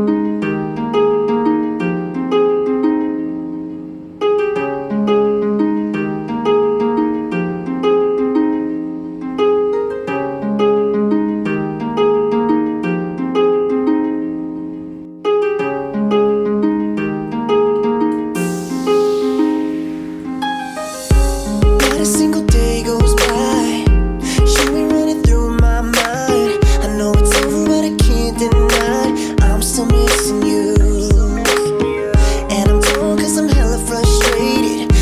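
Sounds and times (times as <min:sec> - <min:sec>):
plucked harp-like melody: 0:00.0 - 0:35.0.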